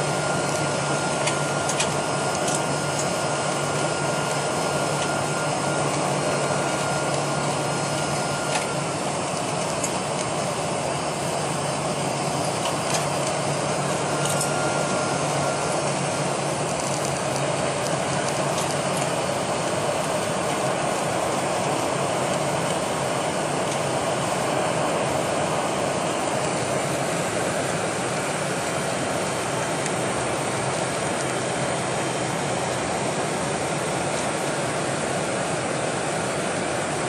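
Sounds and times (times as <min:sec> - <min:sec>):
jet engine hum: 0:00.0 - 0:37.0.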